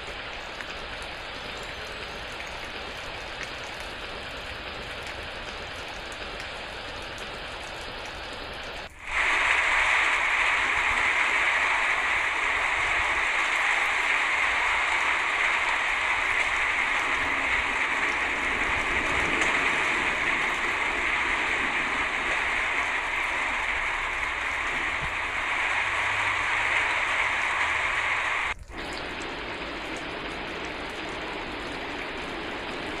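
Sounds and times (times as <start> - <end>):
heavy rain hiss: 0.0 - 33.0
steady rain: 0.0 - 33.0.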